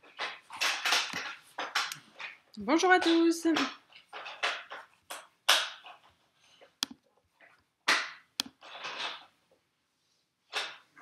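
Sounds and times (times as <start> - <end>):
sharp clicks and knocks: 0.0 - 9.4.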